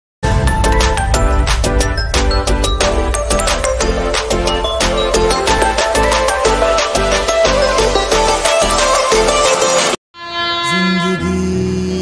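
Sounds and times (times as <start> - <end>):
music with heavy bass beat: 0.3 - 10.0.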